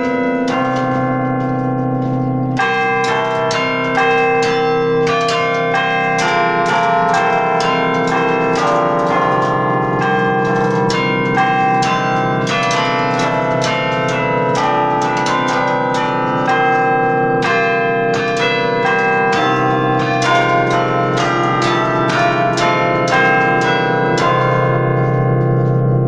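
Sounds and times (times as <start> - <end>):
carillon bells playing tune: 0.0 - 26.0.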